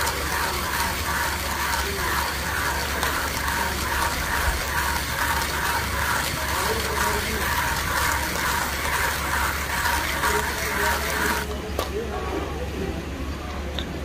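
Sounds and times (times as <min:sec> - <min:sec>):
hand coffee grinder crunching beans: 0:00.0 - 0:11.4.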